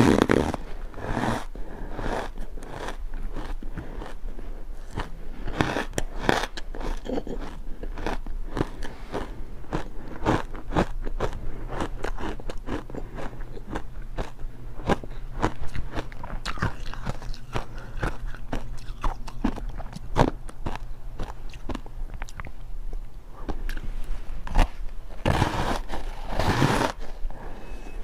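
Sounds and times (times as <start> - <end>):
biting and chewing ice: 0.0 - 27.2.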